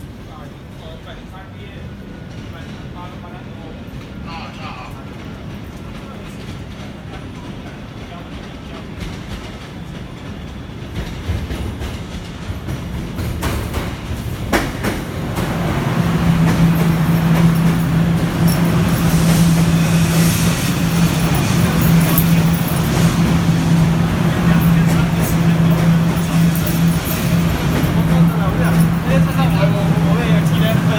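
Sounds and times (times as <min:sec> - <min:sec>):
metro train running on rails: 0:00.0 - 0:30.9.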